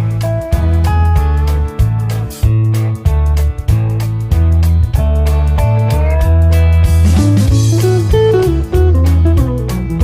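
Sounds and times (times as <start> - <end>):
guitar-led instrumental music: 0.0 - 10.0.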